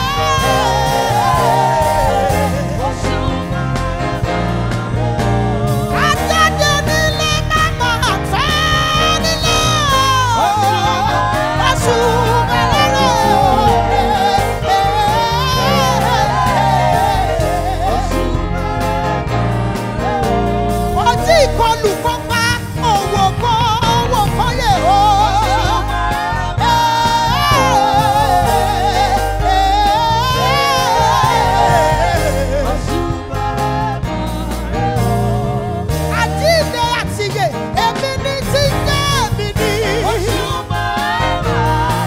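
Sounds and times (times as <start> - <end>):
backing singers: 0.0 - 42.0
live band with bass: 0.0 - 42.0
woman singing gospel with vibrato: 0.0 - 42.0.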